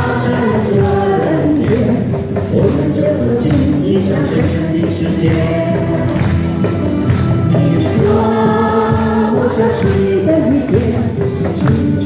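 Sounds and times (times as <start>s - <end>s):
accompanying music: 0.0s - 12.0s
group singing a folk song: 0.0s - 12.0s.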